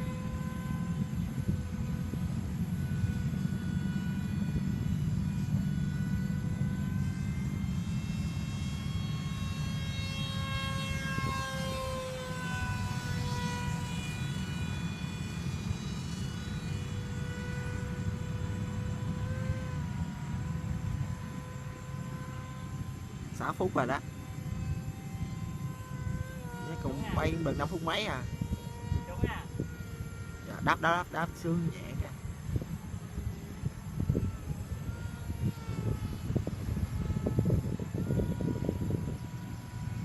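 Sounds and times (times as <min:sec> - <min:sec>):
model plane motor whine: 0:00.0 - 0:40.0
steady low rumble: 0:00.0 - 0:40.0.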